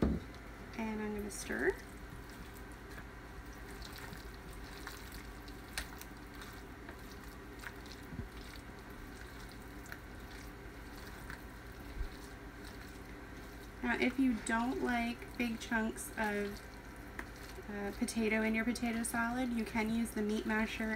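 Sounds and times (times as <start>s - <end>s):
wet squishing of stirred salad: 1.8s - 19.8s.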